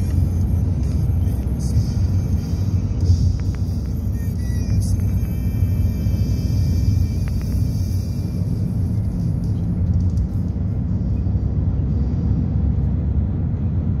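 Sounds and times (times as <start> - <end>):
car road rumble from inside: 0.0 - 14.0.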